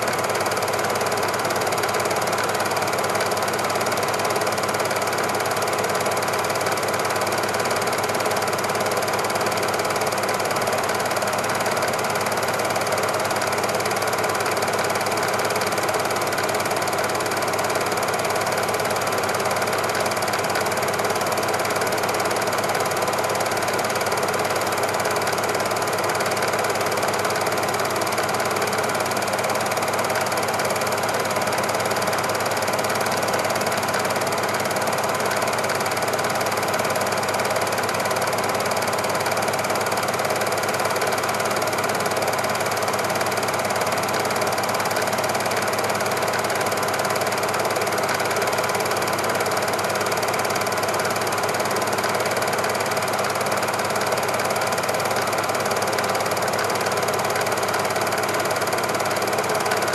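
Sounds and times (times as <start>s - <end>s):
machine clattering steadily: 0.0s - 59.9s.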